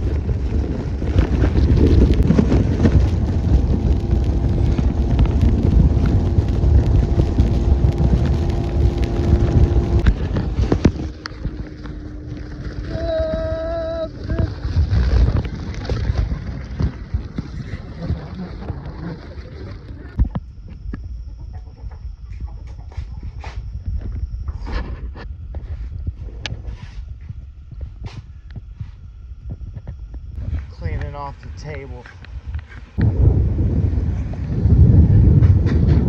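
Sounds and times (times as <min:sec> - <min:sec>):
boat motor rumbling: 0:00.0 - 0:36.0
wind buffeting microphone: 0:00.0 - 0:36.0.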